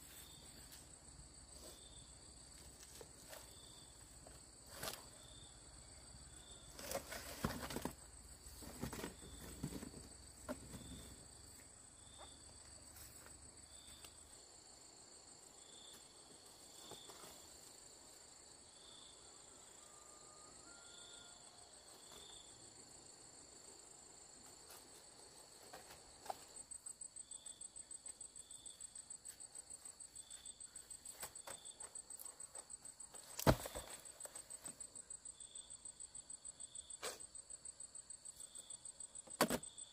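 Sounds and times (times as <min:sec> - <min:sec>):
slow insect chirp: 0:00.0 - 0:39.9.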